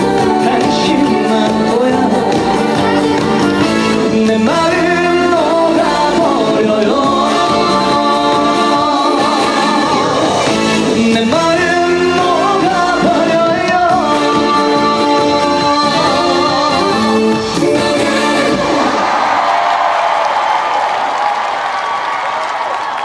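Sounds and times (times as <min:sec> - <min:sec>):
trot music over sound system: 0:00.0 - 0:19.1.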